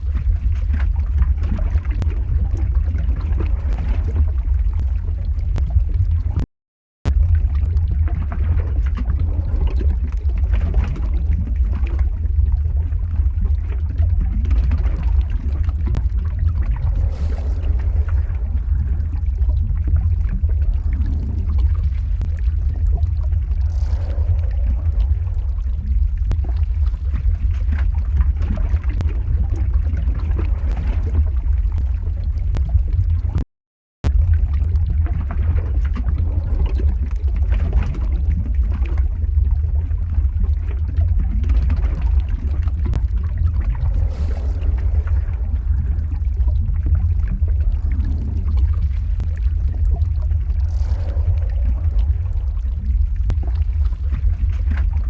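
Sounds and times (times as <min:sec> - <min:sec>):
deep lava rumble: 0:00.0 - 0:55.0
lava crackling and bubbling: 0:00.0 - 0:55.0.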